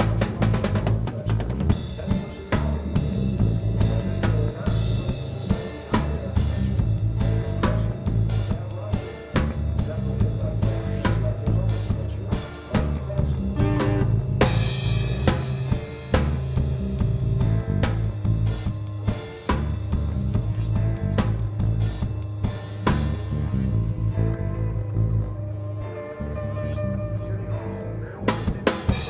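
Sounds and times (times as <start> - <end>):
drum kit beat: 0.0 - 26.0, 28.2 - 29.0
bass line: 0.0 - 29.0
live band music: 0.0 - 29.0.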